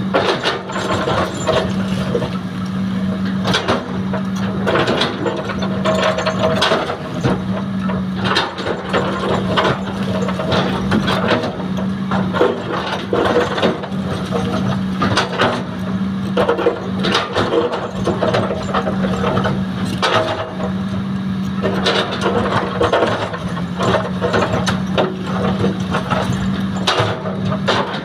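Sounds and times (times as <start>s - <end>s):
excavator diesel engine hum: 0.0s - 28.0s
machinery clanks and rattles: 0.0s - 28.0s.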